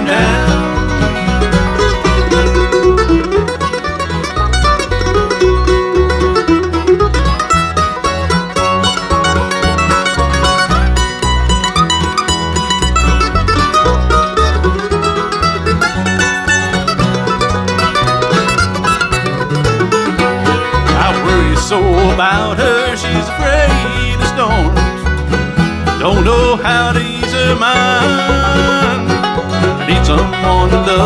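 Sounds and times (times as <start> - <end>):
bluegrass band playing: 0.0 - 31.0
picked lead melody: 0.0 - 31.0
steady bass pulse: 0.0 - 31.0.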